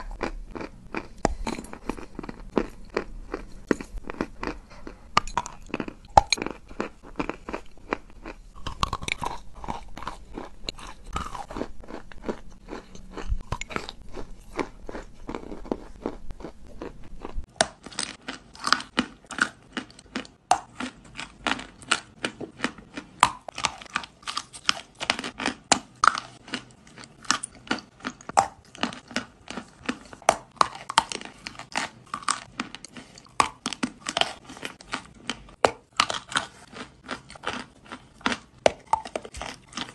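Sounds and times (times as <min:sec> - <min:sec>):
chalk crunching and chewing: 0:00.0 - 0:39.9
low background hum: 0:00.0 - 0:39.9.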